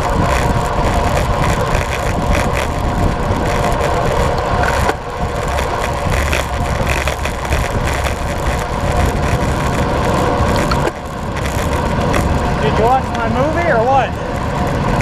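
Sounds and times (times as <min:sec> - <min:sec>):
bicycle tyres humming on asphalt: 0:00.0 - 0:15.0
wind rushing over microphone: 0:00.0 - 0:15.0.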